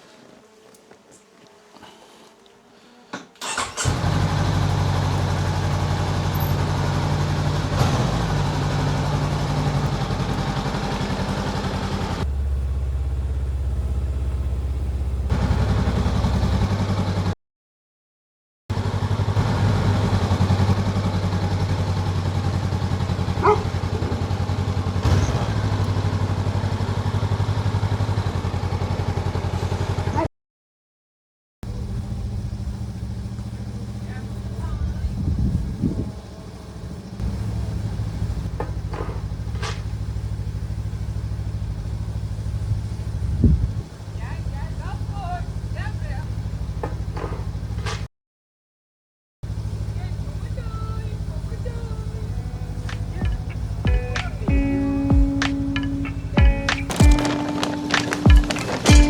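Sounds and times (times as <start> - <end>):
motorcycle engine running: 3.4 - 17.4, 18.7 - 30.3, 31.6 - 47.9, 49.4 - 59.0.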